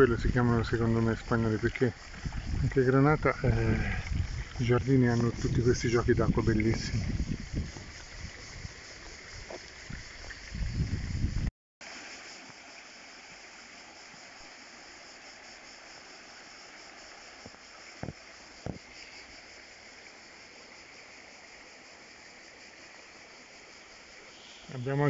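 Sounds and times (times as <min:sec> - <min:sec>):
fountain water trickling: 0:00.0 - 0:25.0.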